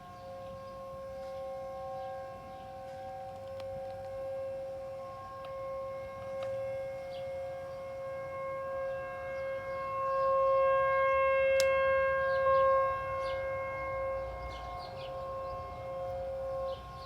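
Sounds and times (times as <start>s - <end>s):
tornado warning siren wailing: 0.0s - 17.0s.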